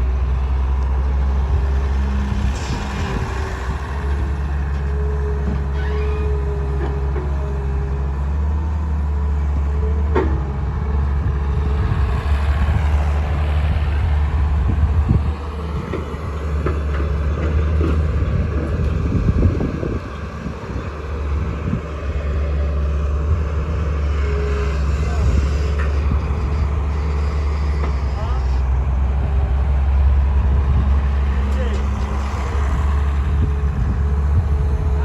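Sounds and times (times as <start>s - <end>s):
diesel engines droning: 0.0s - 35.0s
knocks and rattles of loading sand: 0.1s - 8.6s, 10.0s - 35.0s.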